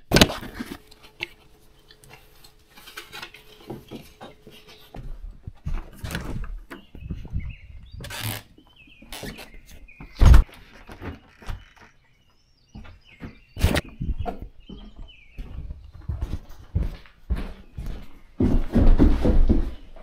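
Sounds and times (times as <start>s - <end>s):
footsteps on wooden walkway: 1.4s - 11.9s, 12.7s - 20.0s.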